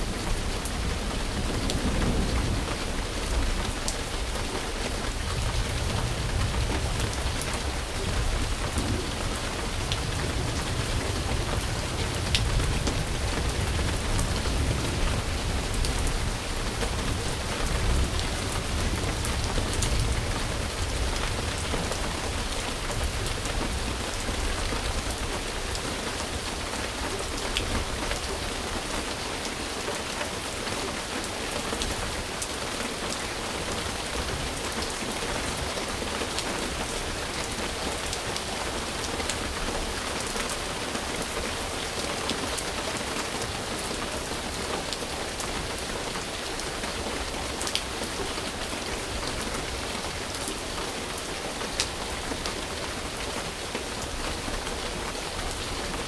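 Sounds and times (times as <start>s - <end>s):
dense rain falling: 0.0s - 56.0s.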